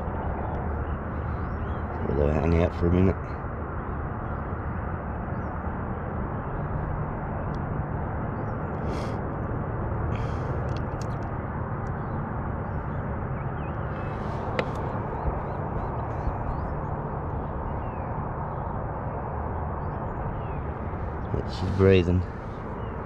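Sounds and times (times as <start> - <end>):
rushing noise with low hum: 0.0 - 23.0.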